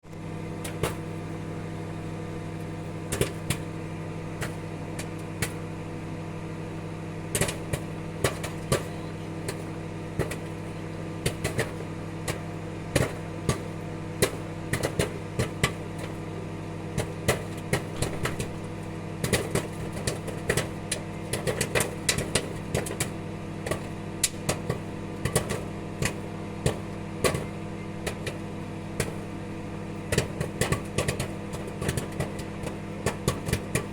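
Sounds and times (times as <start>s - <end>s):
microwave oven humming: 0.0s - 33.9s
popcorn popping: 0.1s - 33.9s.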